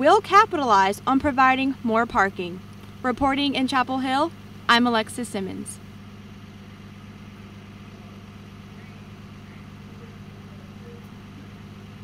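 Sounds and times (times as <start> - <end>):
low hum of traffic: 0.0 - 12.0.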